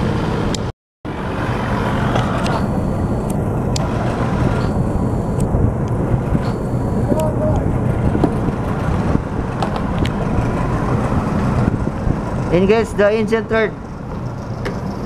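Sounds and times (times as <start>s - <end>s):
outboard motor rumbling: 0.0s - 15.0s
water churning: 0.0s - 15.0s.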